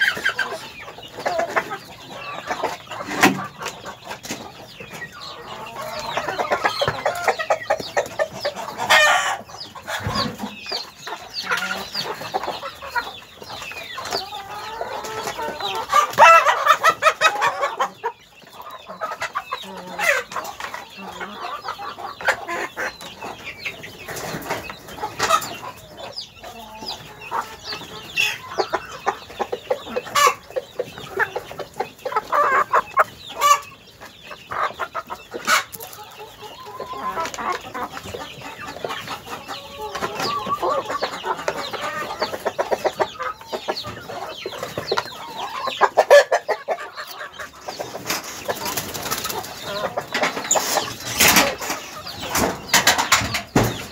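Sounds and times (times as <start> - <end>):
hens clucking: 0.0 - 53.9.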